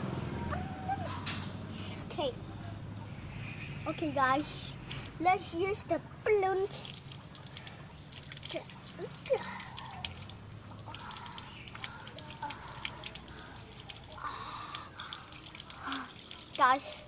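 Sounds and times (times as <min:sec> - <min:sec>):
water dripping and splashing: 0:01.2 - 0:17.0.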